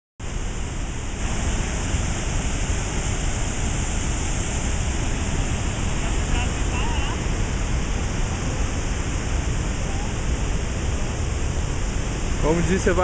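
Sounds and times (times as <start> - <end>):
waterfall roaring: 0.2 - 13.0.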